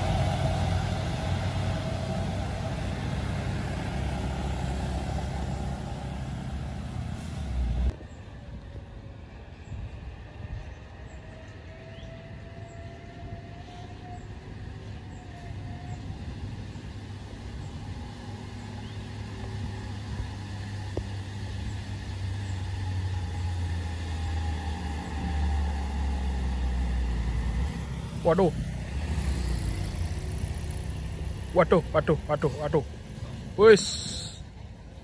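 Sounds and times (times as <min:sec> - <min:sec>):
truck diesel engine rumbling: 0:00.0 - 0:08.0, 0:14.2 - 0:35.0.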